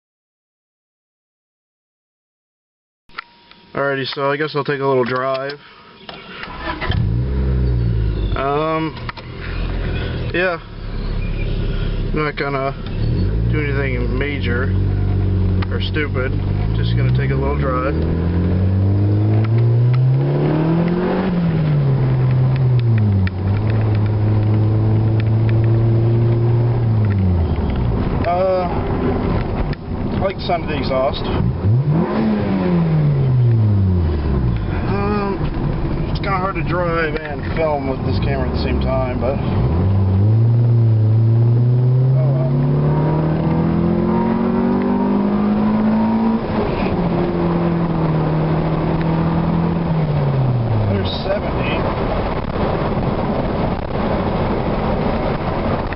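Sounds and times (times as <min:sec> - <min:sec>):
car engine and exhaust revving: 0:06.0 - 0:55.9.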